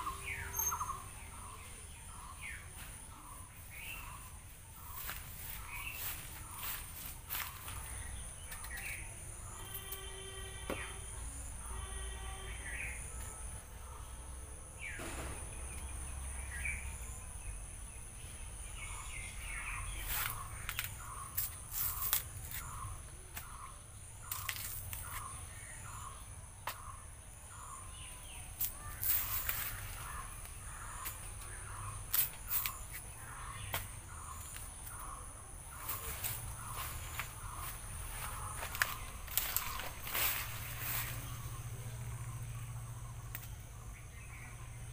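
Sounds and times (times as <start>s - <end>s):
birds calling: 0.0s - 44.9s.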